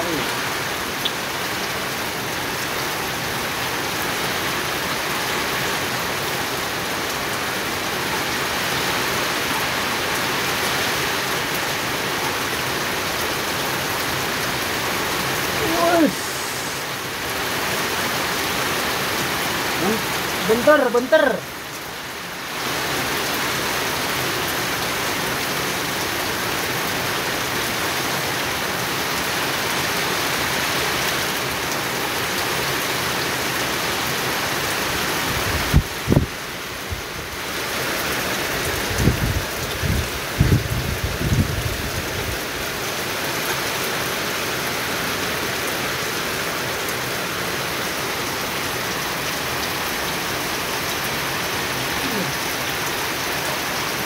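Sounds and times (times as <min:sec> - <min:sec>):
rain on stone and pond: 0:00.0 - 0:54.0.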